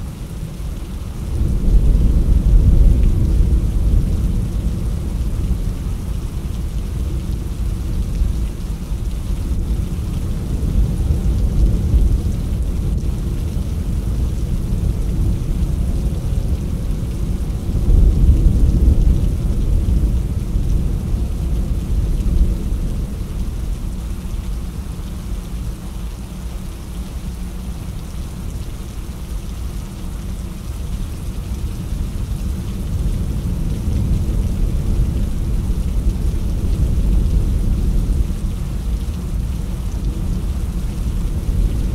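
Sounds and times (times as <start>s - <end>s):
rain: 0.0s - 41.9s.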